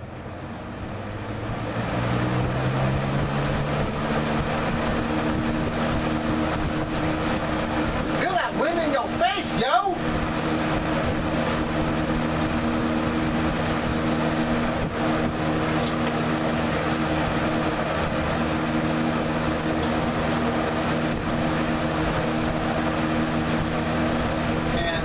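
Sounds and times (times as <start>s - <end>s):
fan air rushing: 0.0s - 25.0s
low motor hum: 0.0s - 25.0s.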